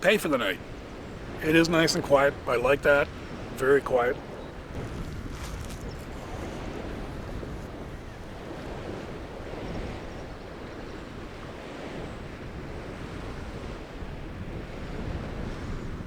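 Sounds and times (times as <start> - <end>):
wind blowing over microphone: 0.0 - 16.0.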